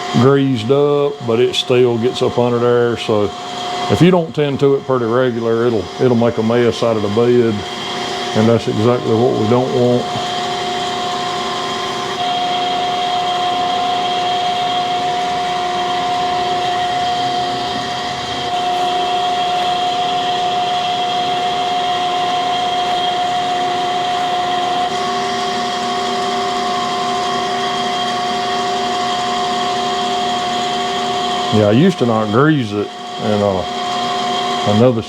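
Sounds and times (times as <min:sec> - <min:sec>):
motor hum: 0:00.0 - 0:35.0
shop machinery whining: 0:00.0 - 0:35.0.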